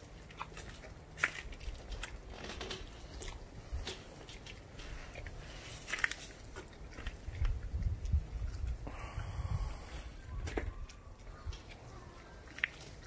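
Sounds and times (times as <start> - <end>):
puppy chewing bones: 0.0 - 8.8, 10.7 - 13.0.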